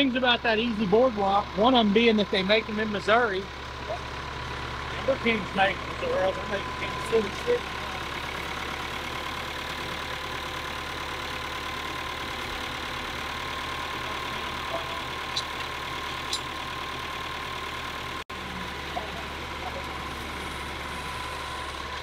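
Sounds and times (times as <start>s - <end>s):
constant whine: 0.0s - 22.0s
tractor engine idling: 0.0s - 22.0s.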